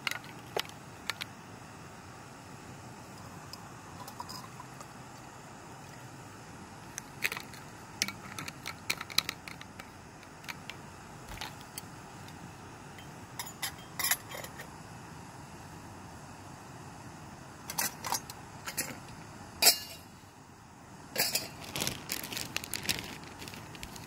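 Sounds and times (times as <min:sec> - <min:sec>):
camping stove hissing: 0:00.0 - 0:24.0.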